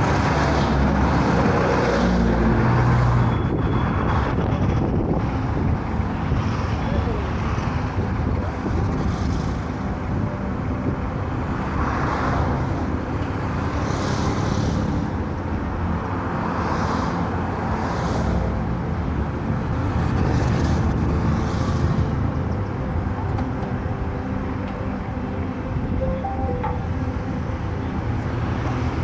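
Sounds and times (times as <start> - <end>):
car road and engine rumble: 0.0 - 29.0
higher road hiss: 4.8 - 29.0.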